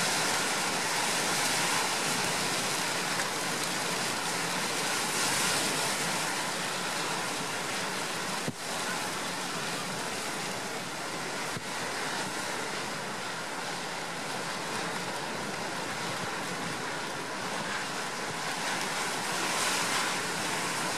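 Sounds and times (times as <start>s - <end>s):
rough sea breaking: 0.0s - 20.9s.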